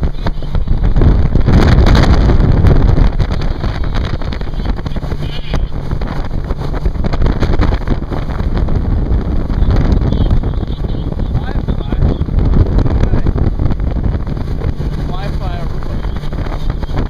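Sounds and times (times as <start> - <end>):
boat engine drone: 0.0 - 17.0
hull rushing through water: 0.0 - 17.0
wind buffeting microphone: 0.0 - 17.0.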